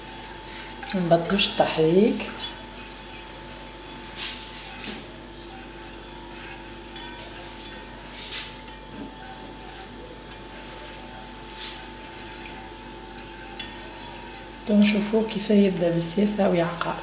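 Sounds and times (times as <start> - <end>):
liquid sloshing in a pot: 0.0 - 17.0.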